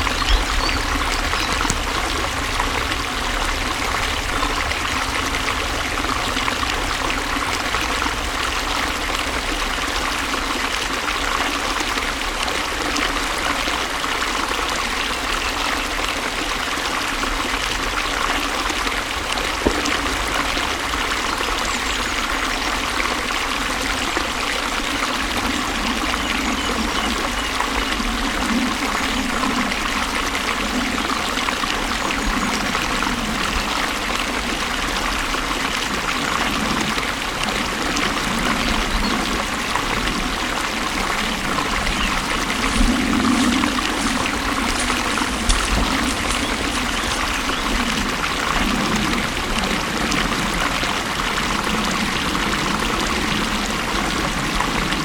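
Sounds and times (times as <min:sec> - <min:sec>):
water flowing: 0:00.0 - 0:55.0.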